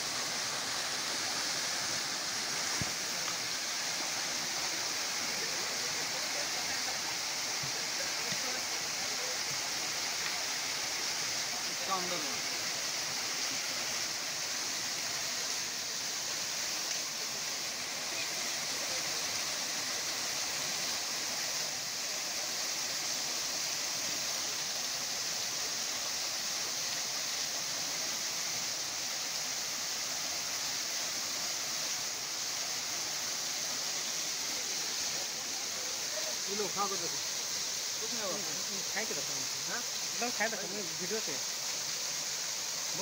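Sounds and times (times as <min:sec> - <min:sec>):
waterfall rushing over rocks: 0:00.0 - 0:43.0.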